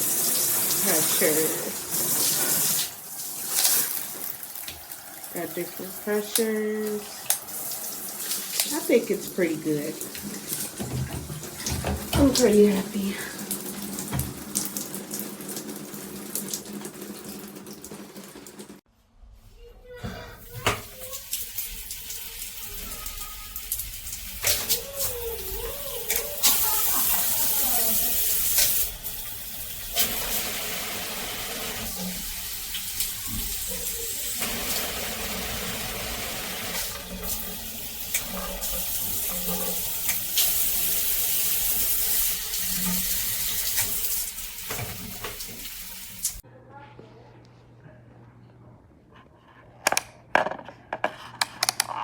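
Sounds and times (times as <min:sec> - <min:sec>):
shower head spraying water: 0:00.0 - 0:18.8, 0:20.6 - 0:46.4.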